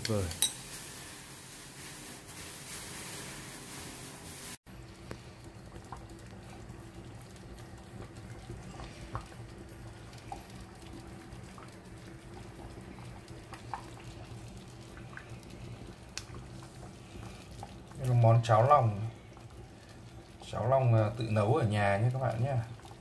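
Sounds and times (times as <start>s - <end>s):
congee bubbling in a pot: 2.9s - 23.0s.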